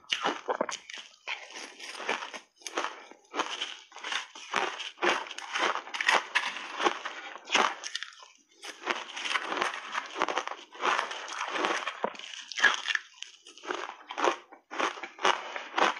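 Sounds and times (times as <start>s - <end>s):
ice crunching being chewed: 0.0s - 15.9s.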